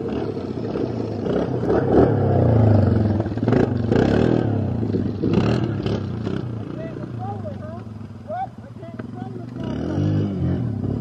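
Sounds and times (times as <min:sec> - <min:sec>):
quad engine revving hard: 0:00.0 - 0:07.4, 0:09.1 - 0:11.0.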